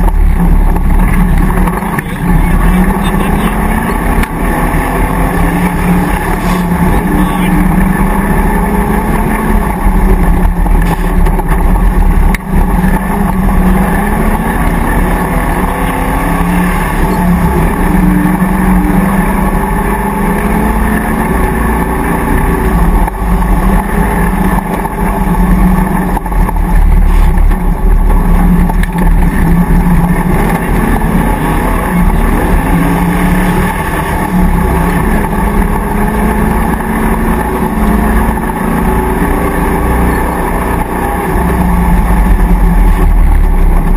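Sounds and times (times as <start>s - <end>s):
car engine revving under load: 0.0s - 43.9s.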